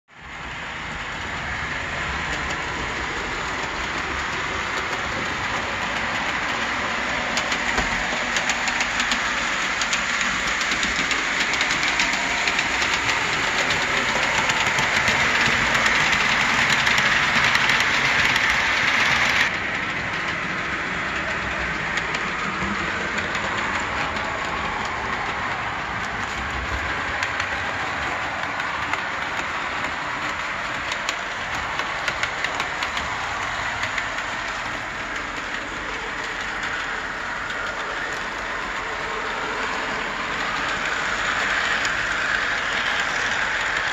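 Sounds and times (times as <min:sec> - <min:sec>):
wheels clicking on rails: 0:00.2 - 0:43.9
model train motor whir: 0:00.4 - 0:43.9.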